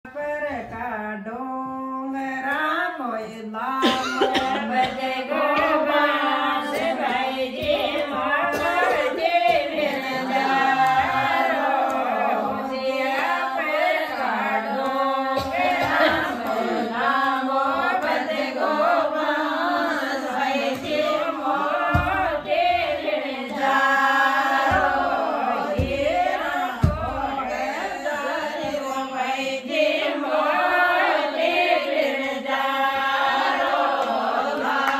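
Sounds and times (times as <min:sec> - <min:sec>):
women singing folk song: 0:00.0 - 0:34.9.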